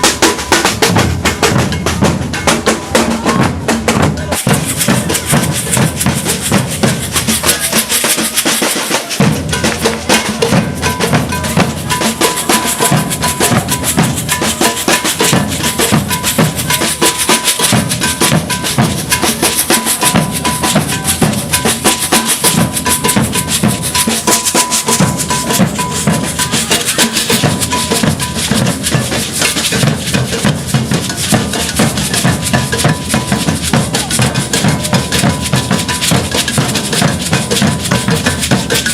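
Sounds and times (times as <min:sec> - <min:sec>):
rattling snare drums: 0:00.0 - 0:38.9.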